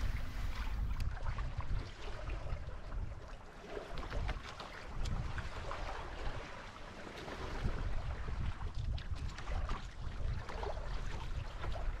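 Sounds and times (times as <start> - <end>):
wind buffeting microphone: 0.0 - 6.6, 7.3 - 12.0
water splashing: 0.0 - 12.0.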